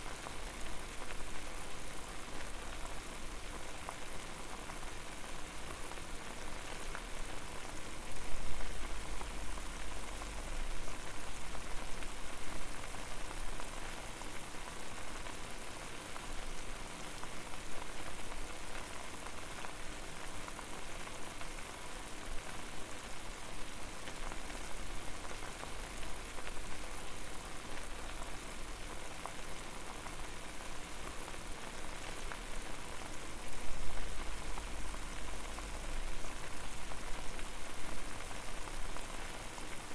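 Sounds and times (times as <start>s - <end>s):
water boiling in a pot: 0.0s - 39.9s.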